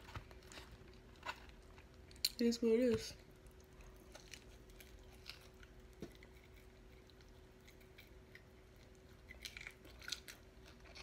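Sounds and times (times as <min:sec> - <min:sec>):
faint chewing: 0:00.0 - 0:02.4, 0:03.2 - 0:11.0.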